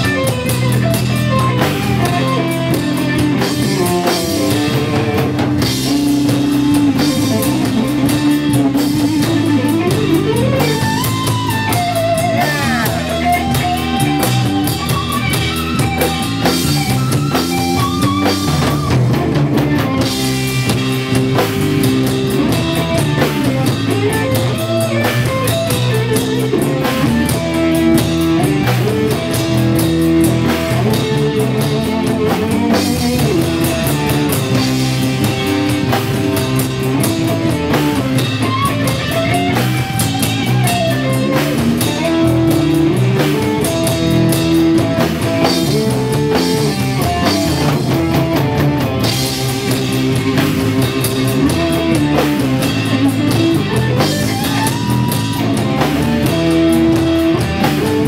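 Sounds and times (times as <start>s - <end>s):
drum kit: 0.0s - 58.0s
electric guitar lead: 0.0s - 58.0s
jazz fusion band playing live: 0.0s - 58.0s.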